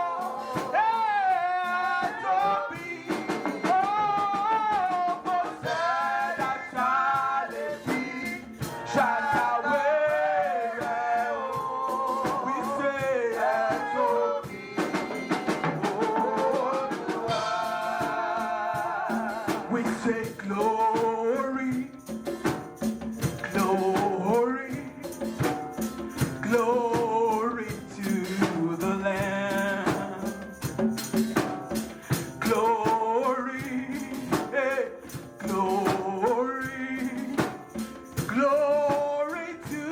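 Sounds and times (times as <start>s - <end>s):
drums and hand percussion: 0.0s - 39.9s
voices singing worship song: 0.0s - 39.9s.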